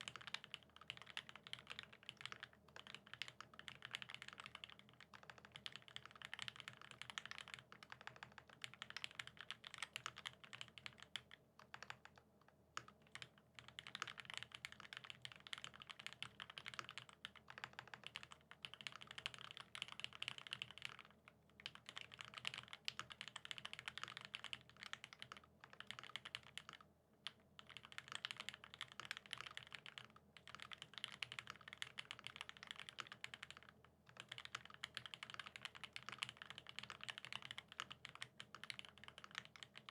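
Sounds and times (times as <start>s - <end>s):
mechanical keyboard typing: 0.0s - 12.2s, 12.8s - 39.9s.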